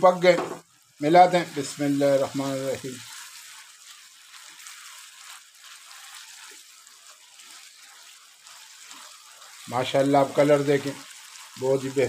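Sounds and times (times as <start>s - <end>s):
curry sizzling in a frying pan: 0.0s - 12.0s
spatula stirring: 0.0s - 12.0s.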